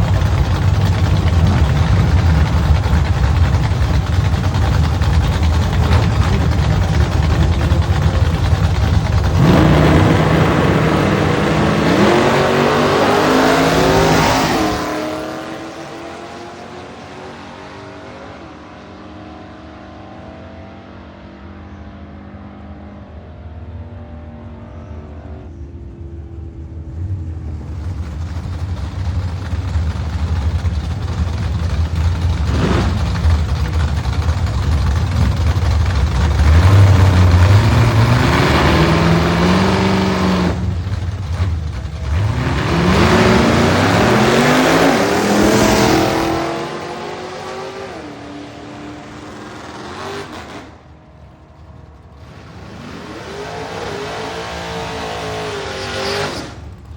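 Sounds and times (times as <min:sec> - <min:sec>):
drag car engine revving: 0:00.0 - 0:20.2, 0:23.8 - 0:56.9.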